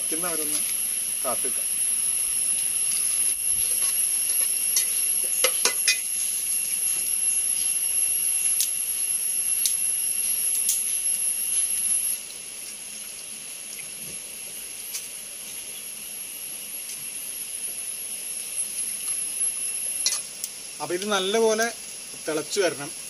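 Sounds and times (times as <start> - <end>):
high-pitched hiss with whistling tone: 0.0 - 23.0.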